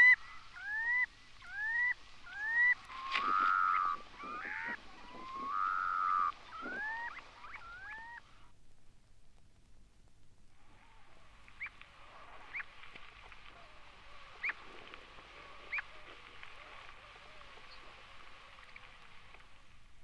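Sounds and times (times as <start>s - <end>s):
recording hiss: 0.0s - 20.0s.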